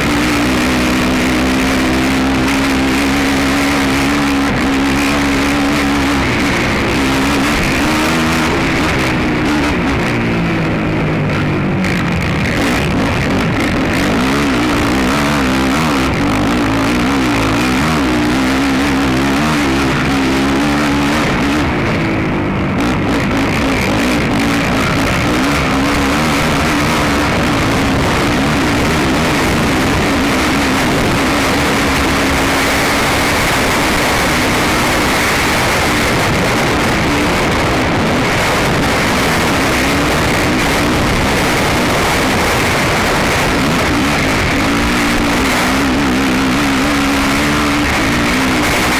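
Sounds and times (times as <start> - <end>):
atv engine revving hard: 0.0 - 48.9.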